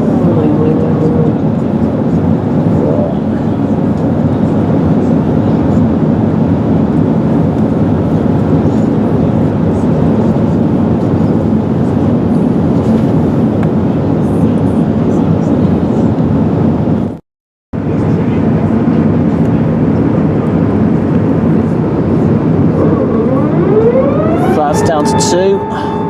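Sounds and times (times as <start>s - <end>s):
airplane cabin engine and airflow noise: 0.0s - 17.2s, 17.8s - 26.0s.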